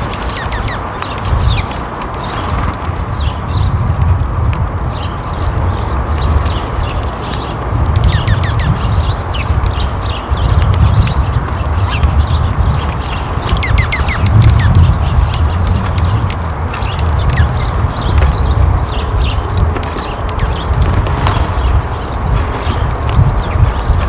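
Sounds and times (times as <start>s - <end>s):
continuous low rumble: 0.0s - 24.0s
small birds chirping: 0.0s - 24.0s.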